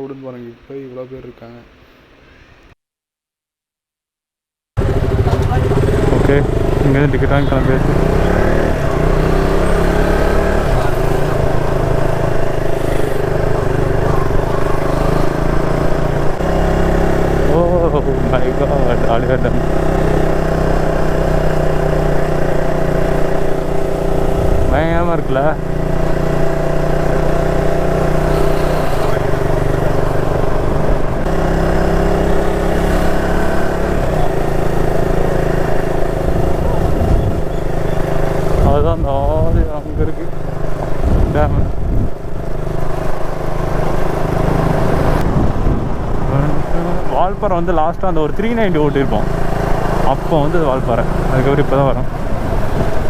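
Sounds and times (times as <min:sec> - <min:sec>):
motorcycle engine riding off: 0:04.8 - 0:53.0.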